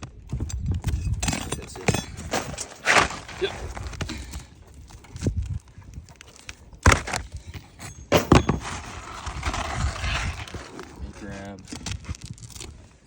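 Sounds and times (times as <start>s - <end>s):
rough scraping on shingles: 1.6s - 13.0s.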